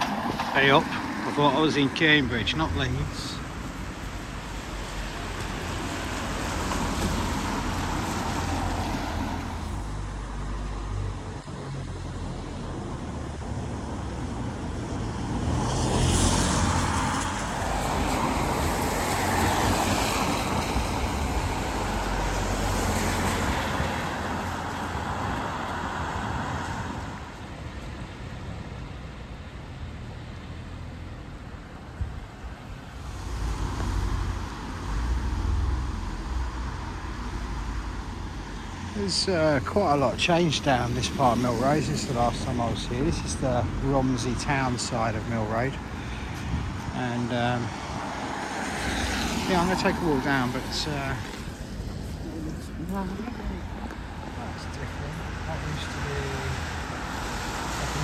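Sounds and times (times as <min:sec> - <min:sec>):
cars passing: 0:00.0 - 0:58.0
steady low traffic rumble: 0:00.0 - 0:58.0.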